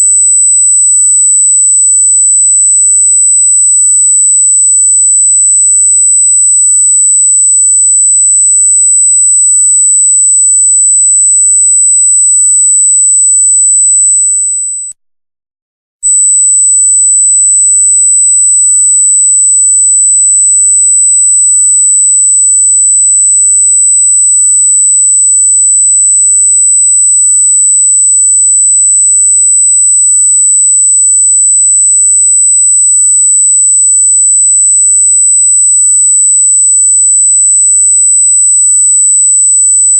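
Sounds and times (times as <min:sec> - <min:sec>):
high-pitched electronic sine tone: 0:00.0 - 0:15.0, 0:16.0 - 0:39.9.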